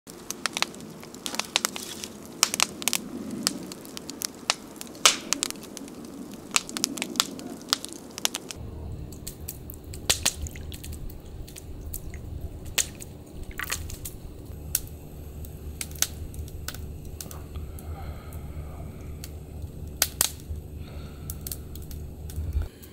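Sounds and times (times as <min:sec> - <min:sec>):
low steady rumble: 0:00.1 - 0:22.9
wood fire crackling and popping: 0:00.1 - 0:22.9.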